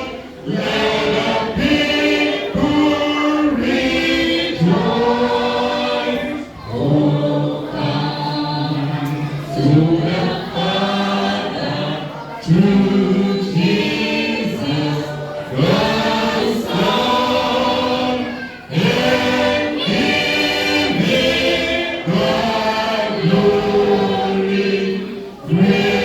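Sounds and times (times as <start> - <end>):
congregation singing a hymn: 0.0 - 26.0.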